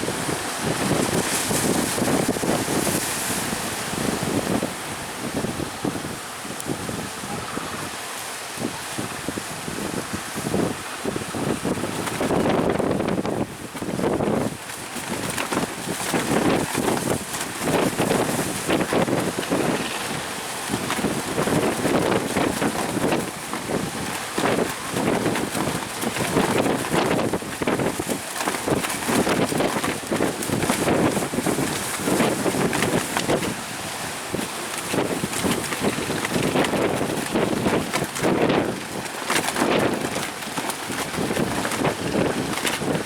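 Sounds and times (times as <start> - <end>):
gusty wind buffeting microphone: 0.0 - 43.0.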